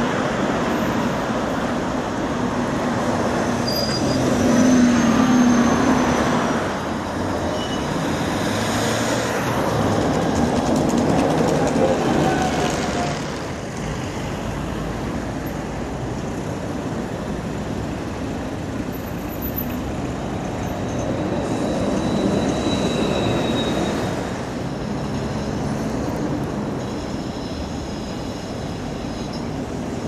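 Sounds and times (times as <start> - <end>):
cars and buses driving past: 0.0 - 30.0.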